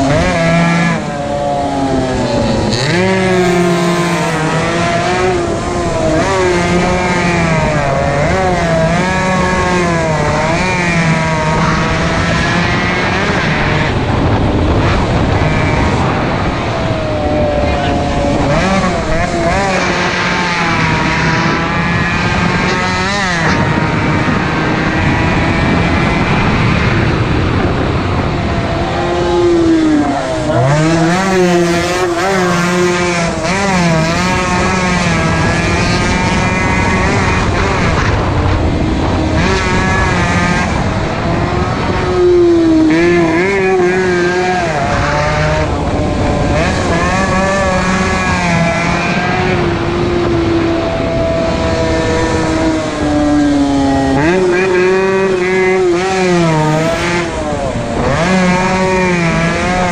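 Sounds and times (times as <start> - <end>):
two-stroke motorcycle engines racing: 0.0 - 59.9.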